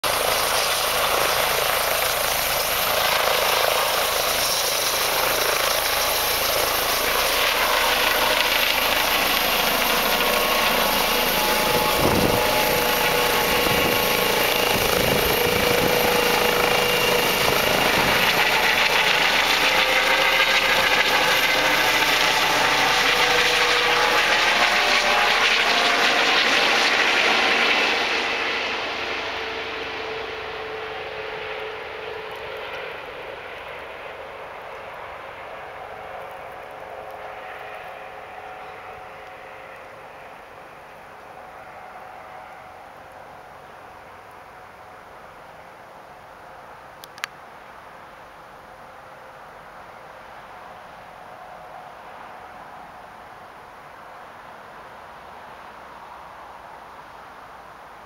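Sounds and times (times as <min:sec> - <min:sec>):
helicopter rotor and turbine noise: 0:00.0 - 0:47.7
high turbine whine: 0:00.0 - 0:58.0.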